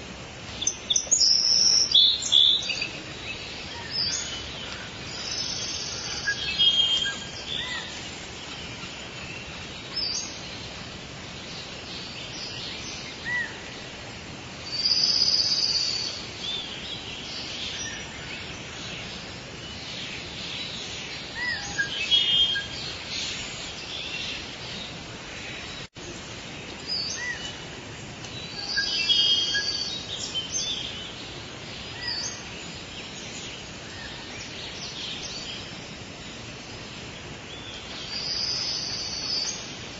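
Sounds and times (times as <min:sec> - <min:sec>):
steady background hiss: 0:00.0 - 0:39.9
birds chirping and calling: 0:00.5 - 0:14.0, 0:14.6 - 0:39.9.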